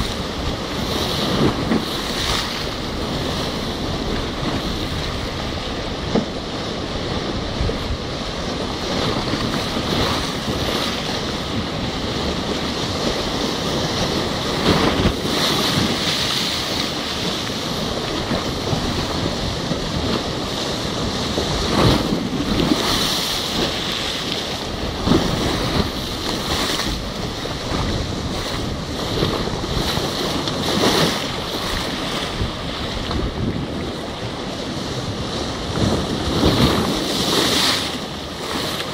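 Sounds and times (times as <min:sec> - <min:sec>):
turbulent water rushing: 0:00.0 - 0:38.9
wind gusting on microphone: 0:00.0 - 0:38.9.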